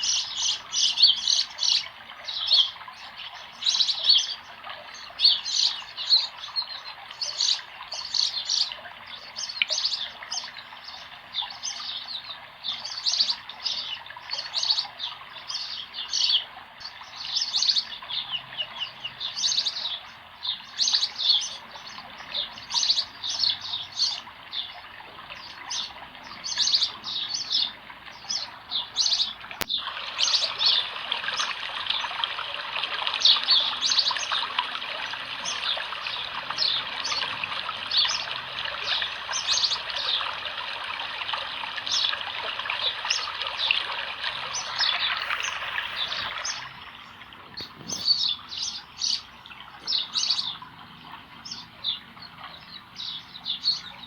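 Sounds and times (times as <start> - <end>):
rush of flowing water: 0.0 - 54.0
small birds chirping: 0.0 - 54.0.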